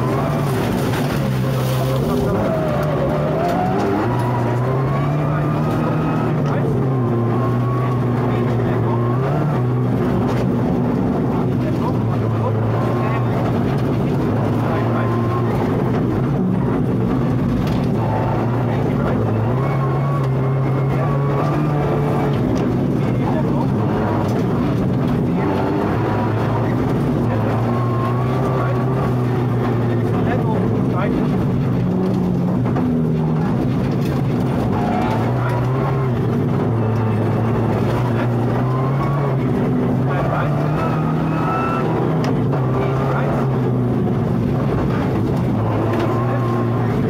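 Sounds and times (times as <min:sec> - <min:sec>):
rally car engine running: 0:00.0 - 0:47.0.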